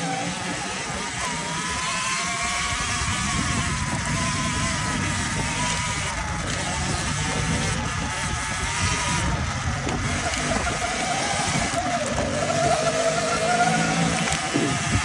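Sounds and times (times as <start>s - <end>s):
electric motor whine: 0.0s - 15.0s
wind: 0.0s - 15.0s.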